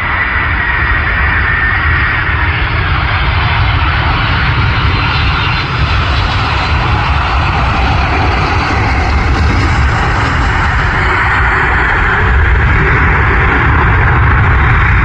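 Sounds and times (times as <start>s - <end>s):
airplane engines passing: 0.0s - 15.0s.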